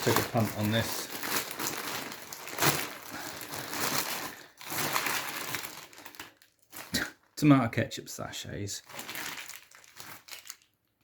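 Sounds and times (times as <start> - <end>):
plastic packaging crinkling: 0.0 - 7.5, 8.8 - 11.0.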